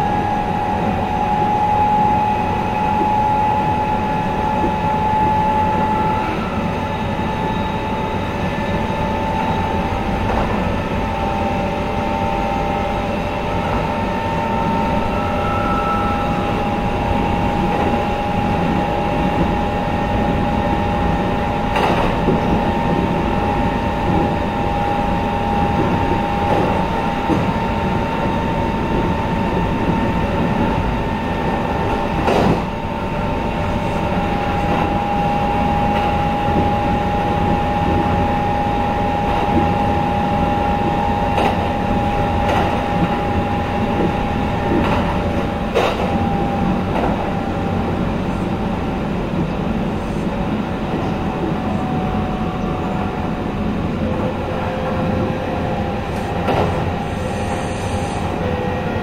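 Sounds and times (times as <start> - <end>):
constant train hum: 0.0 - 59.0
train wheels rumbling on rails: 0.0 - 59.0.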